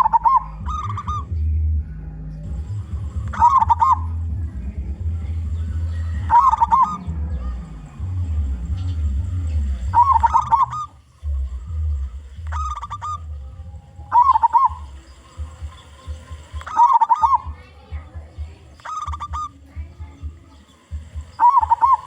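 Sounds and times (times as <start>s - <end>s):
low rumble: 0.0s - 18.6s
dove cooing: 0.0s - 22.0s.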